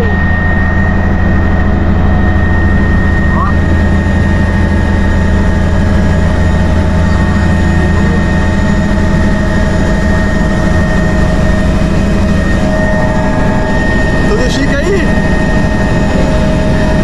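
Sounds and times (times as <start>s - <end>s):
helicopter rotor and engine drone: 0.0s - 17.0s
thin steady whine: 0.0s - 17.0s.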